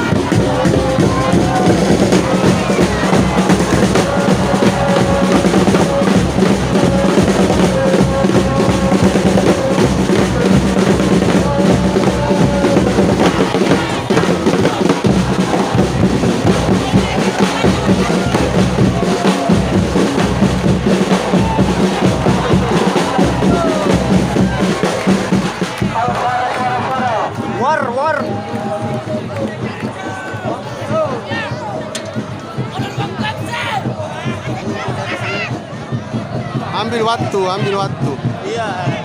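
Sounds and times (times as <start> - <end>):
crowd singing: 0.0 - 39.0
drums beating fast rhythm: 0.0 - 39.0.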